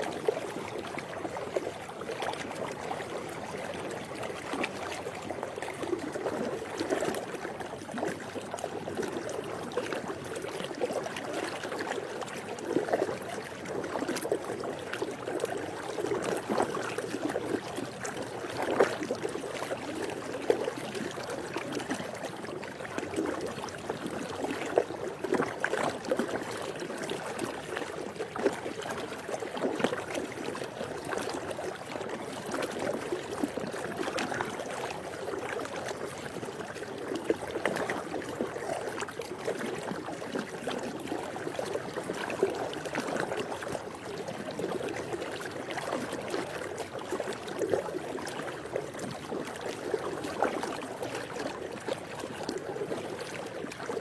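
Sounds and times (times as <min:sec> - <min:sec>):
pool water lapping and splashing: 0:00.0 - 0:54.0.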